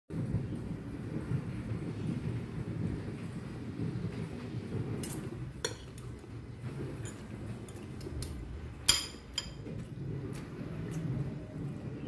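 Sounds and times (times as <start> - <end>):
low rumble: 0.1 - 12.0.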